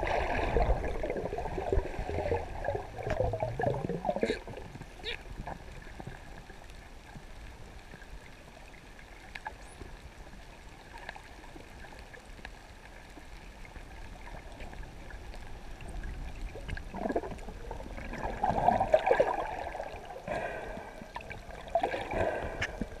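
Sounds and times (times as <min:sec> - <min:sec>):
underwater gurgling and bubbling: 0:00.0 - 0:09.4, 0:13.3 - 0:23.0
faint underwater clicks: 0:00.9 - 0:19.7, 0:20.3 - 0:23.0.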